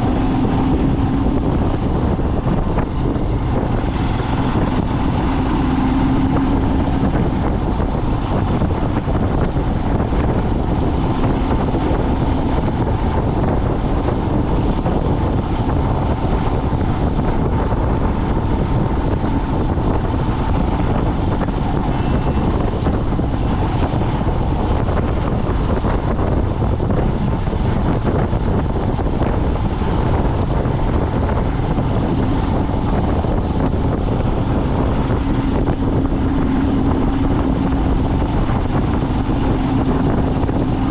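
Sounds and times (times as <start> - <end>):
vehicle engine and road rumble: 0.0 - 40.9
wind noise: 0.0 - 40.9.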